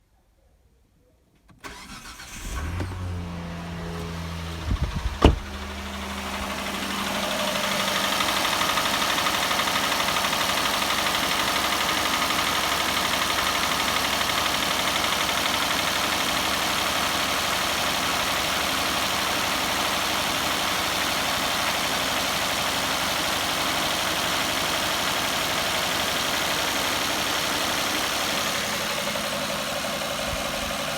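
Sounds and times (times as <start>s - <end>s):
engine starting and idling: 1.5s - 30.9s
engine knocking: 5.9s - 30.9s.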